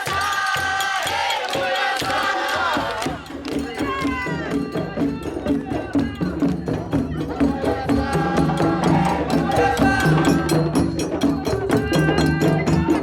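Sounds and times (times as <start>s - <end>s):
drums and percussion beat: 0.0s - 13.0s
group singing: 0.0s - 13.0s.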